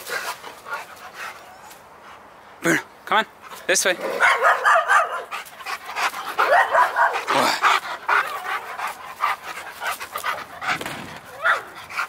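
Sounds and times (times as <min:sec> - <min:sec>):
dog panting: 0:00.0 - 0:02.6, 0:04.9 - 0:12.0.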